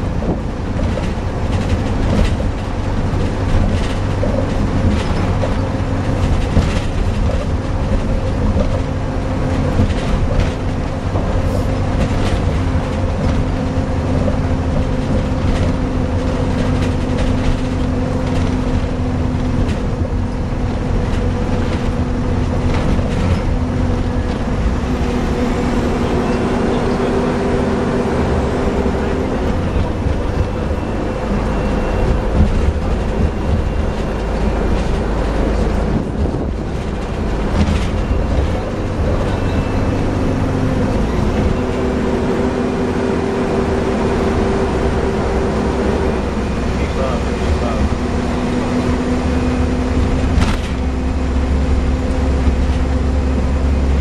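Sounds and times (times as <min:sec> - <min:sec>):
bus engine and road noise: 0:00.0 - 0:54.0
continuous drone: 0:00.0 - 0:54.0.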